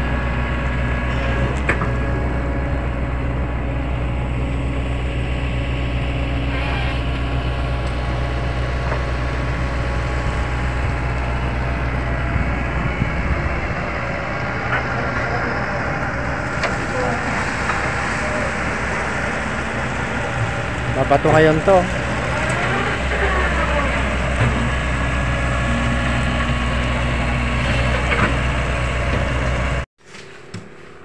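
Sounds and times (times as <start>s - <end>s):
heavy vehicle engine humming: 0.0s - 29.9s.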